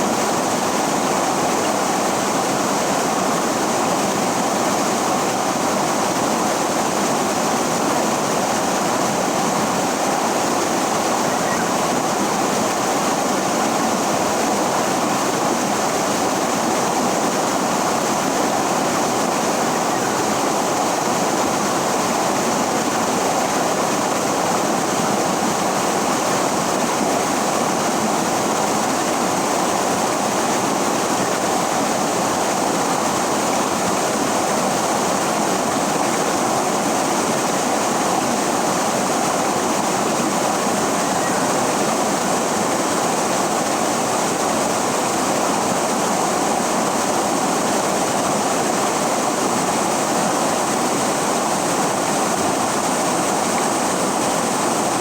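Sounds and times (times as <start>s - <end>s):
river water rushing: 0.1s - 55.0s.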